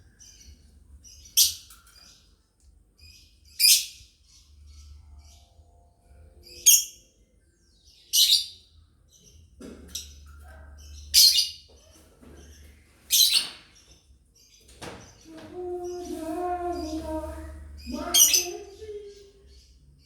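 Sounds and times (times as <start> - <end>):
lovebirds chirping: 0.0 - 20.0.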